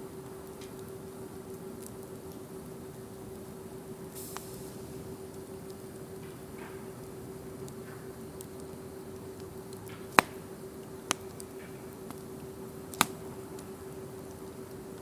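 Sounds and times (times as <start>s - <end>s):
campfire crackling and popping: 0.0s - 15.0s
steady low hum: 0.0s - 15.0s.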